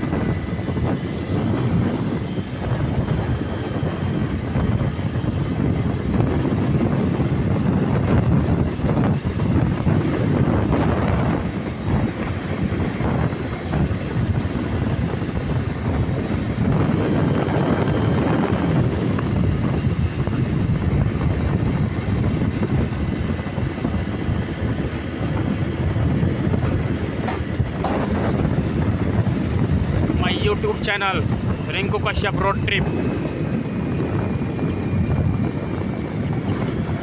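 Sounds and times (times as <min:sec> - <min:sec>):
road noise at highway speed: 0:00.0 - 0:37.0
wind rumbling on microphone: 0:00.0 - 0:37.0.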